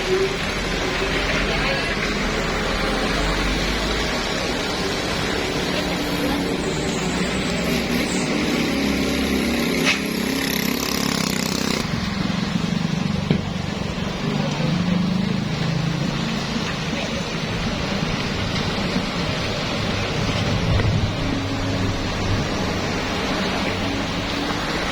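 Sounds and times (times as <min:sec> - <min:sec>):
heavy vehicle engine: 0:00.0 - 0:24.9
traffic running steadily: 0:00.0 - 0:24.9.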